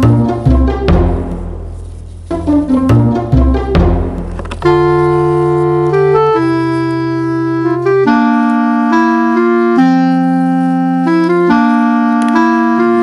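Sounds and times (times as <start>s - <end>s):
sustained keyboard chords: 0.0s - 13.0s.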